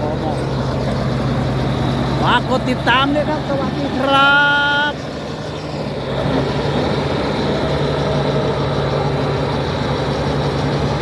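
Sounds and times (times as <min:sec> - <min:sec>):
bulldozer diesel engine idling: 0:00.0 - 0:11.0.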